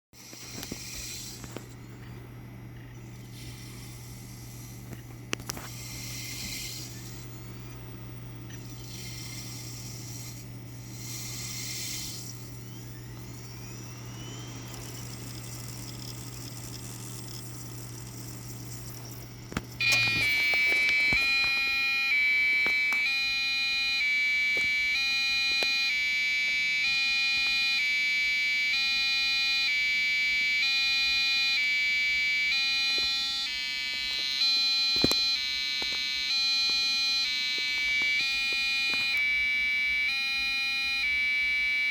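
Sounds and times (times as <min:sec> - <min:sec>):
computer hum: 0:00.2 - 0:41.9
shrill electronic buzzing: 0:00.2 - 0:41.9.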